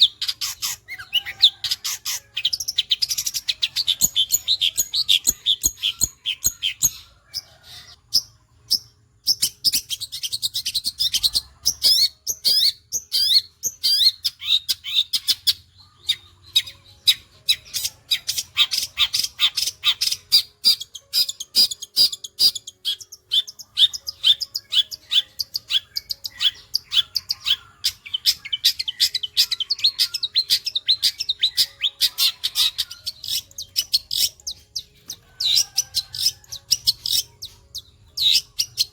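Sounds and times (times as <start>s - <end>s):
bird singing rapid chirps: 0.0s - 38.9s.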